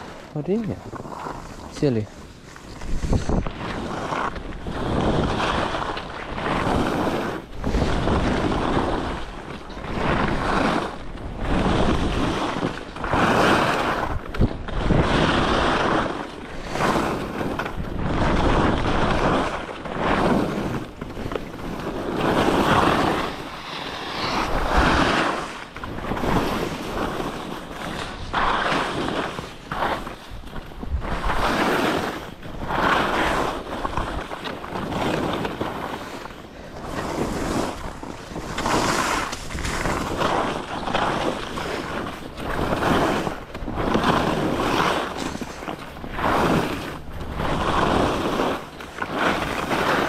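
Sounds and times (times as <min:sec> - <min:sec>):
skis scraping through snow: 0:00.0 - 0:50.0
wind buffeting microphone: 0:00.0 - 0:50.0.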